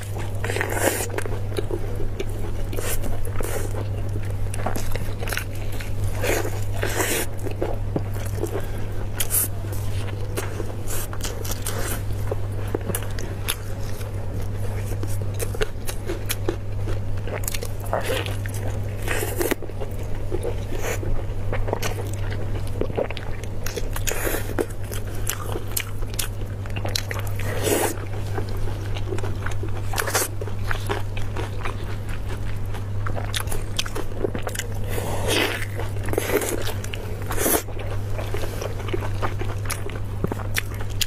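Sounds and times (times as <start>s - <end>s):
chewing: 0.0s - 41.0s.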